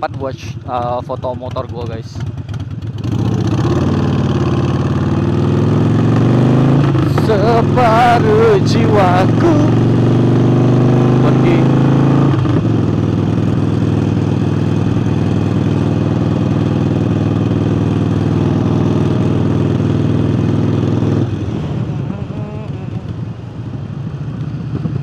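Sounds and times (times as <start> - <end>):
motorcycle engine under throttle: 0.0 - 25.0.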